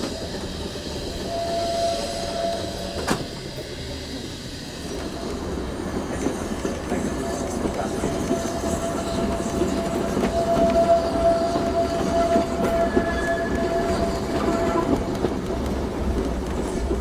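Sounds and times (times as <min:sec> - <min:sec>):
train clattering over rails: 0:00.0 - 0:17.0.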